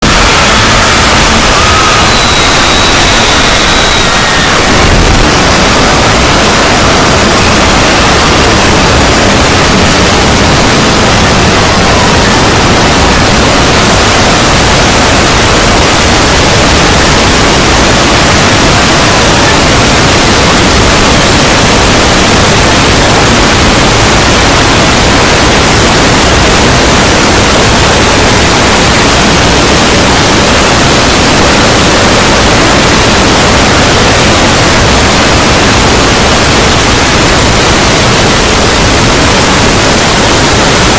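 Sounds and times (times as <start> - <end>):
loud static hiss: 0.0 - 40.9.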